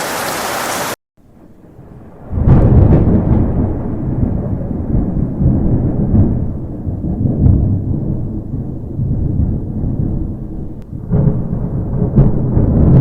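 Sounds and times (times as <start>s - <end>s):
thunder crack and rumble: 1.3s - 13.0s.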